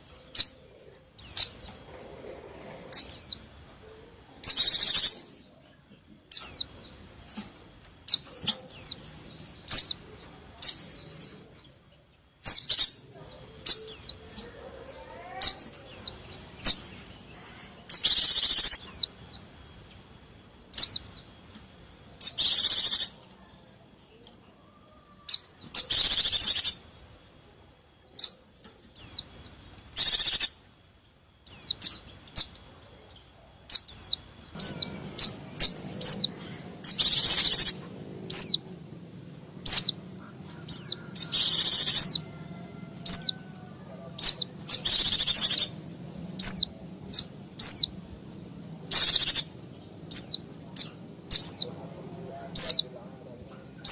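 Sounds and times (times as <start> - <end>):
birds rapid chattering: 0.0 - 24.2, 25.2 - 27.2, 28.2 - 30.9, 31.5 - 53.9
birds chirping: 0.0 - 53.9.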